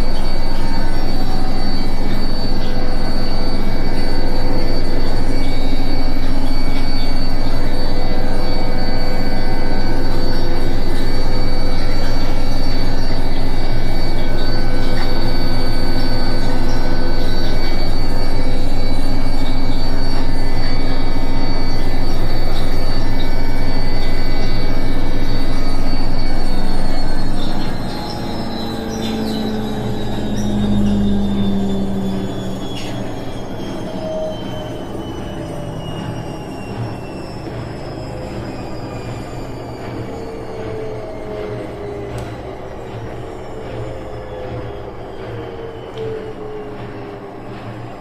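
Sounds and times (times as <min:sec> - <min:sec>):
high-pitched squeak: 0:00.0 - 0:48.0
washing machine drum spinning: 0:00.0 - 0:48.0.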